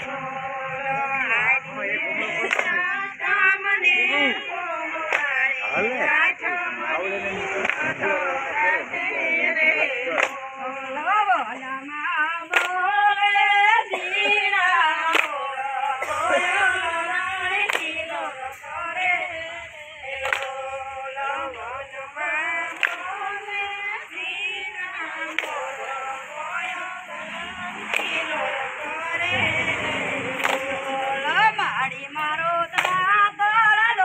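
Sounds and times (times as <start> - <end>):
group hand clapping: 0.0 - 6.6, 7.3 - 34.0
women singing together: 0.0 - 34.0.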